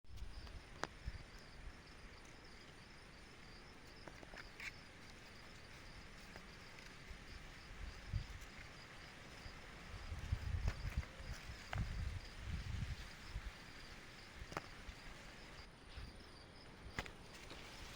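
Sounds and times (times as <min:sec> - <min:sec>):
insects chirping trill: 0:00.1 - 0:17.9.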